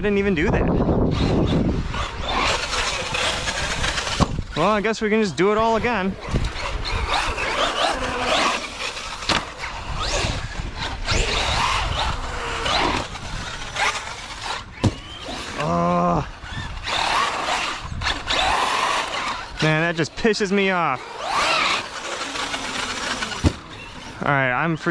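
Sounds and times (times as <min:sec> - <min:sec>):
electric motor whining: 0:00.0 - 0:24.9
tyre and chassis noise: 0:00.0 - 0:24.9.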